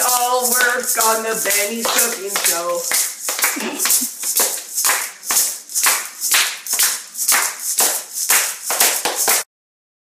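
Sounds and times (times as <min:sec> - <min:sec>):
rhythmic hand percussion: 0:00.0 - 0:09.5.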